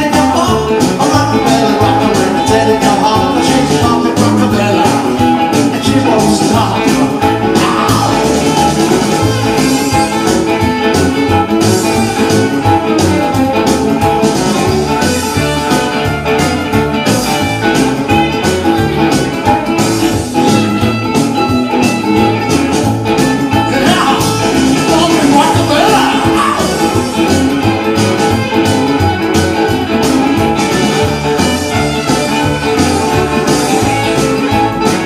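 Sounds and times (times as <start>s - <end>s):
instrumental rock and roll music: 0.0s - 35.0s.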